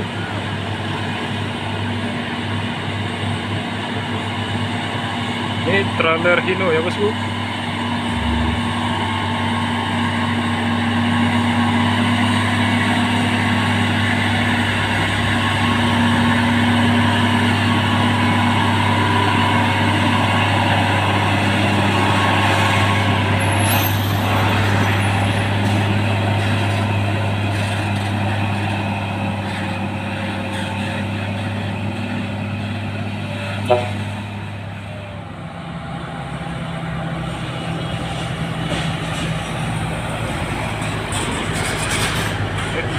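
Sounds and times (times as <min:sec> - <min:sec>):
truck diesel engine droning: 0:00.0 - 0:42.9.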